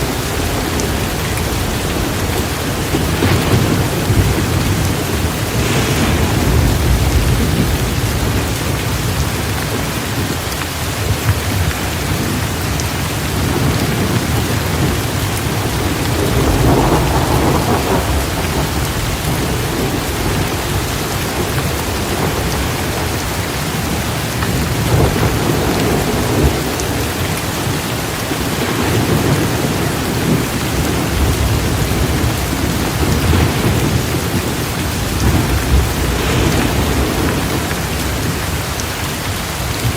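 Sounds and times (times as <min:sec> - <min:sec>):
rolling thunder: 0:00.0 - 0:10.4, 0:11.0 - 0:39.9
steady rain: 0:00.0 - 0:39.9.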